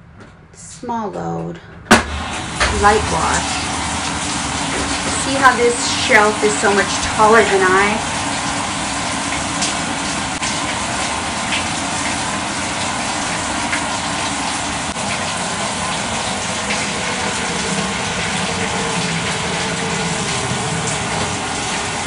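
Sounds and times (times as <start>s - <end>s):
water pouring into washing machine: 2.0s - 22.0s.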